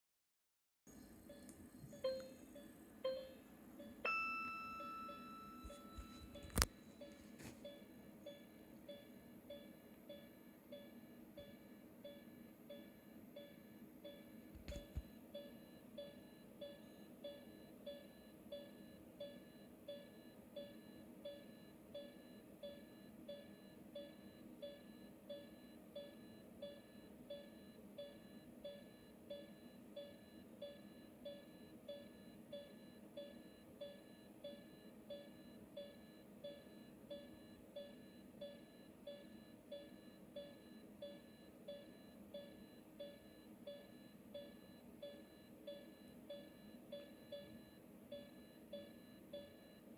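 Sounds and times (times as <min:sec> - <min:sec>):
low background hum: 0:00.9 - 0:49.9
heart monitor beeping: 0:01.3 - 0:49.9.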